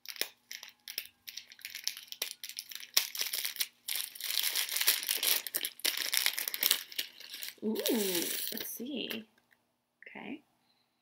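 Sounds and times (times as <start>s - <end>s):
paper wrapping crinkling: 0.0s - 9.2s.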